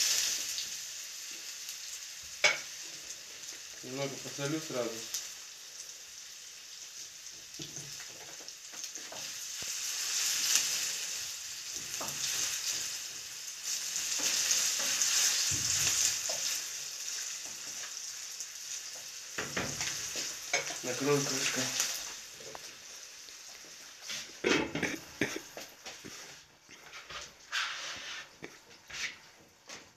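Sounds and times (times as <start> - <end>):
potatoes sizzling in hot oil: 0.0 - 28.4.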